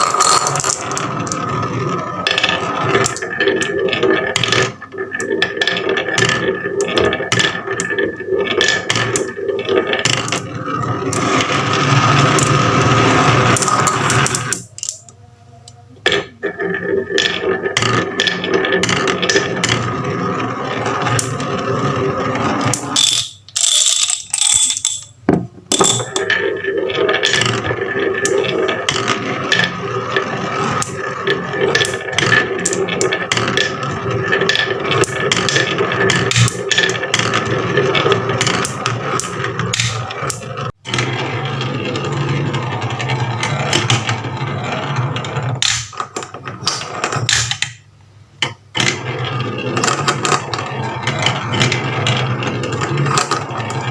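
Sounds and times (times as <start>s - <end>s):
marbles clacking down marble run: 0.0s - 15.1s, 16.0s - 47.8s, 48.4s - 53.9s.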